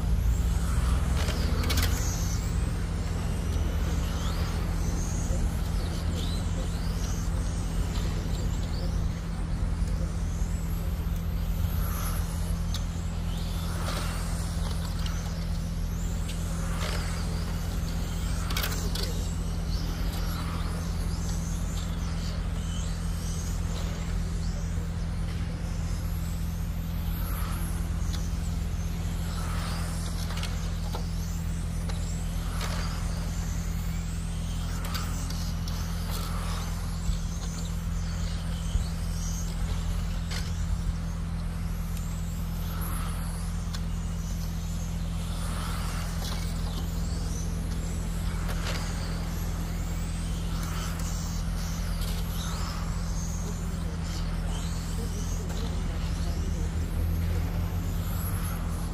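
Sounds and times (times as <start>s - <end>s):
steady low hum: 0.0s - 58.9s
toy race car motors whining: 0.0s - 58.9s.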